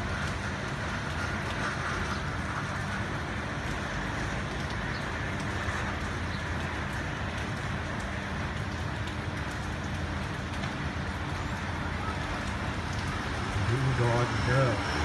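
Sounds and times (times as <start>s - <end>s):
rain on wet concrete: 0.0s - 15.0s.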